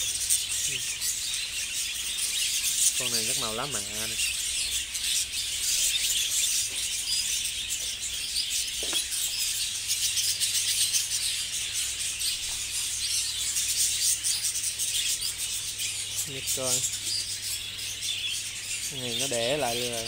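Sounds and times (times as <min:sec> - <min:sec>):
budgerigars chattering and chirping: 0:00.0 - 0:20.0.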